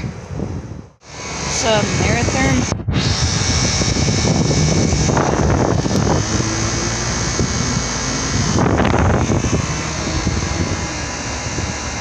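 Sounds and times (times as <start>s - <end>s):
heat pump unit humming: 0.0s - 12.0s.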